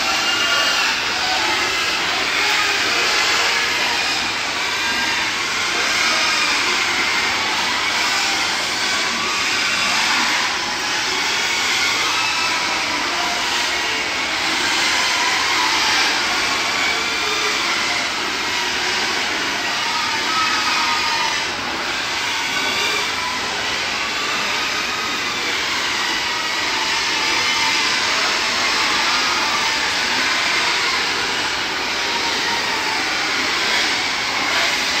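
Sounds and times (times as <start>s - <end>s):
pigs squealing: 0.0s - 35.0s.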